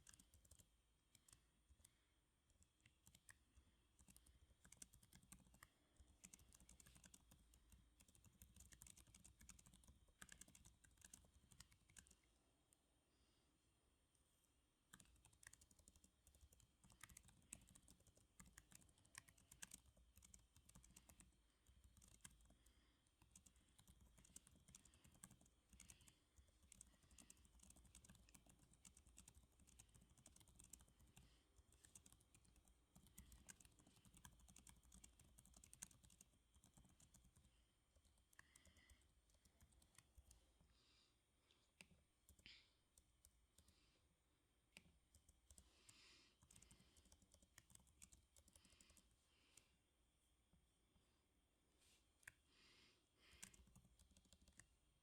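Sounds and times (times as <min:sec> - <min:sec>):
typing on keyboard: 0:00.0 - 0:12.3, 0:14.9 - 0:40.4, 0:44.8 - 0:49.6, 0:53.2 - 0:54.9.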